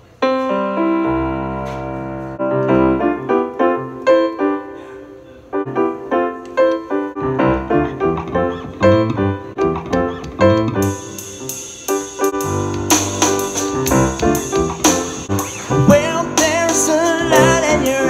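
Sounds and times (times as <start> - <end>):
electronic keyboard piano chords: 0.0 - 18.0.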